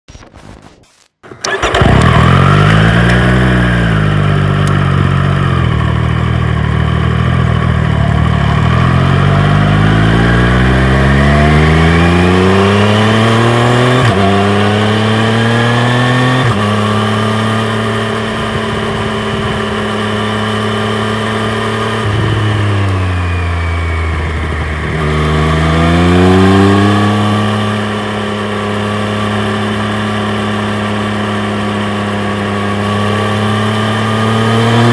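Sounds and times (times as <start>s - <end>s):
motorcycle engine revving: 1.2s - 34.9s.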